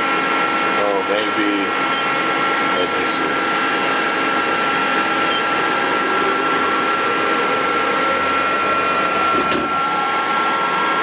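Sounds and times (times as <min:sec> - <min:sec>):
lathe running: 0:00.0 - 0:11.0.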